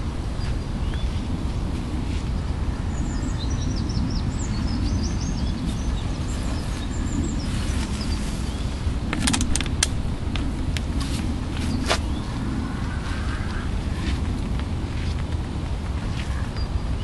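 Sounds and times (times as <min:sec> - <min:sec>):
low outdoor rumble: 0:00.0 - 0:17.0
songbirds chirping: 0:00.0 - 0:17.0.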